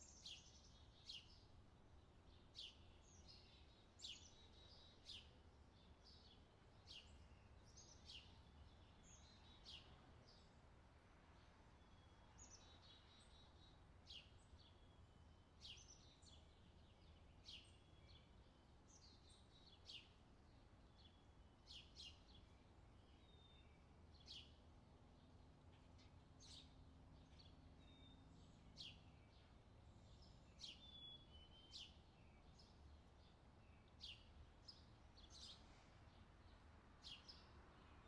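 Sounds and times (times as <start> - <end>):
faint birdsong chirps and whistles: 0.0 - 10.6, 11.3 - 38.0.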